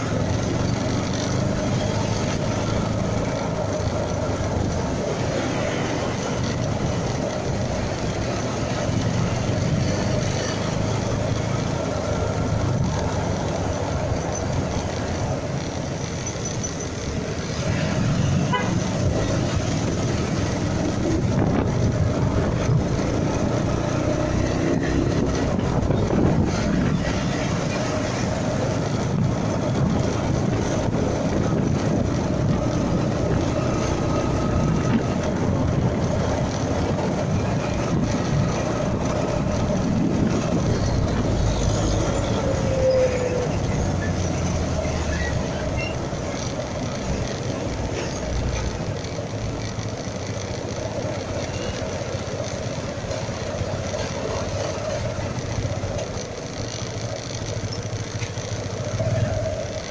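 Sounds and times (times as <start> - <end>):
passing cars and trucks rumbling: 0.0 - 59.9
road and wind noise: 0.0 - 59.9.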